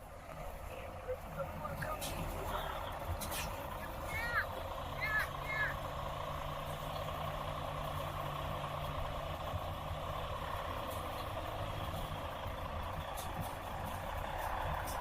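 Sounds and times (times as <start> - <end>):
truck engines running: 0.0 - 15.0.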